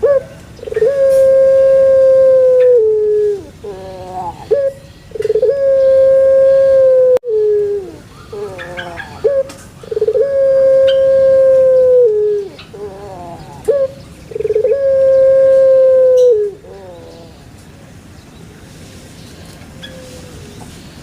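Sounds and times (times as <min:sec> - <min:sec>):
dove cooing: 0:00.0 - 0:17.6, 0:19.8 - 0:20.7.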